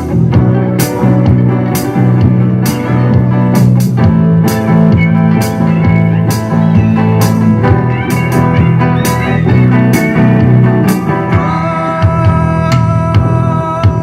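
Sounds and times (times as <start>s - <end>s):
drum hits: 0.0s - 13.4s
live band playing: 0.0s - 14.0s.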